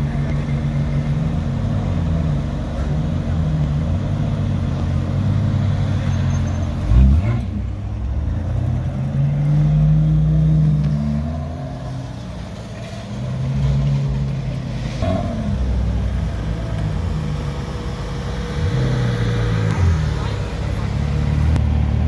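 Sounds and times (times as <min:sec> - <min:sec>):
supercar engines running: 0:00.0 - 0:22.0.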